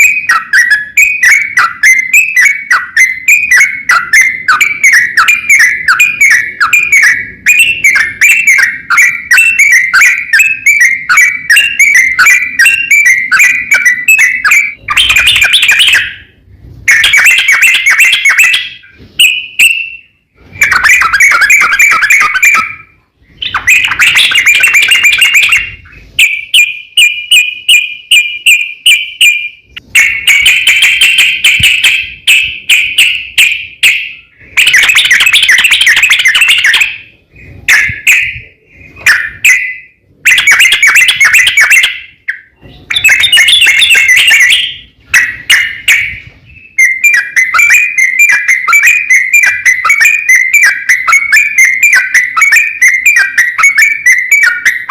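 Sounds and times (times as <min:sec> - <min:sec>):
bulbul singing: 0:00.0 - 0:54.9.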